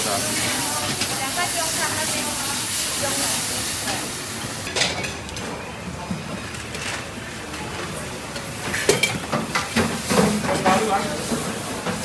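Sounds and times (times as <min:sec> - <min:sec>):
busy food stall din: 0:00.0 - 0:12.0.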